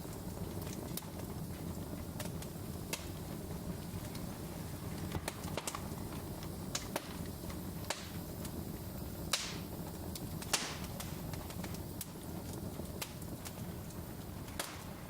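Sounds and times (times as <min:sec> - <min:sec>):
brief hiss from fire: 0:00.0 - 0:15.0
low rumble of flames: 0:00.0 - 0:15.0
wood fire crackling: 0:00.0 - 0:15.0.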